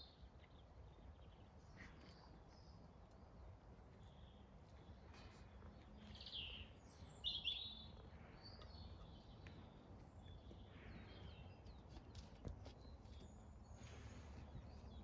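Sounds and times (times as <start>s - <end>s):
faint low outdoor background: 0.0s - 15.0s.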